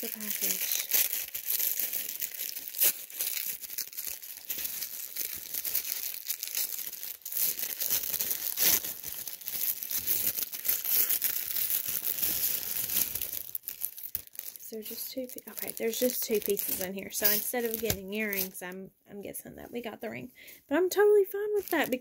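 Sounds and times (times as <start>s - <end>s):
packaging crinkling and crackling: 0.0s - 18.8s, 20.9s - 22.0s.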